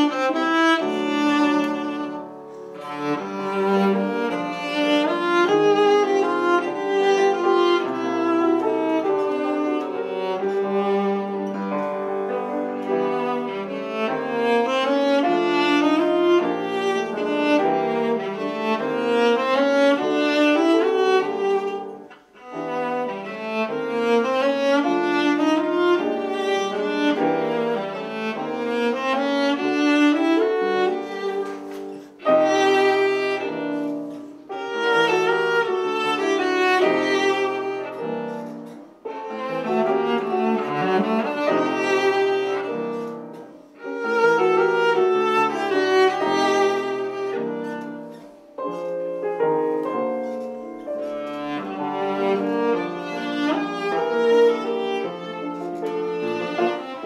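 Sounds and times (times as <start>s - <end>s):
cello bowed: 0.0s - 57.0s
piano accompaniment: 0.0s - 57.0s.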